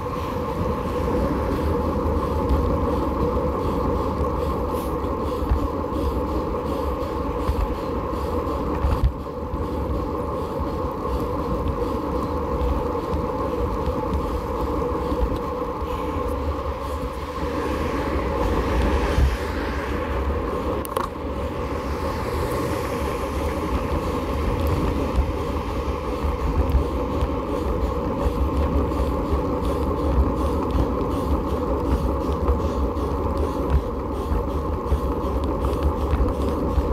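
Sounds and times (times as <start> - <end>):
tyres rolling on asphalt: 0.0 - 36.9
wind on microphone: 0.0 - 36.9.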